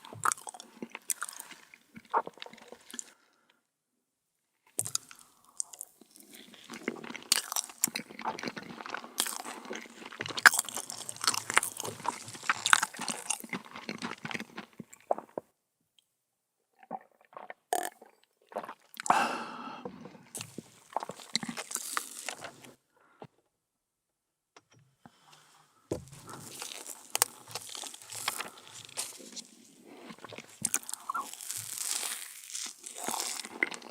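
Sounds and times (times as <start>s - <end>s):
person chewing crunchy dessert: 0.0s - 3.4s, 4.7s - 15.5s, 16.8s - 22.8s, 26.0s - 33.9s.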